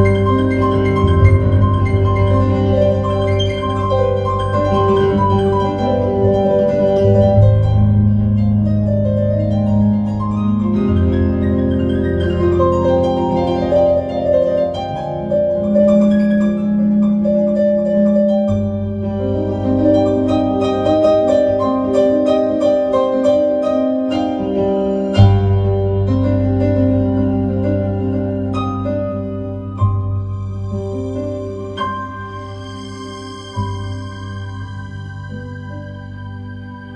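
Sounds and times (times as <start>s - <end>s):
solo piano improvisation: 0.0s - 36.9s.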